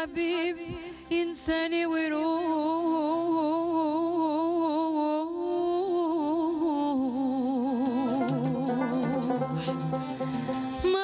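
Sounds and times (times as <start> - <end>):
woman singing wordless melisma: 0.0 - 11.0.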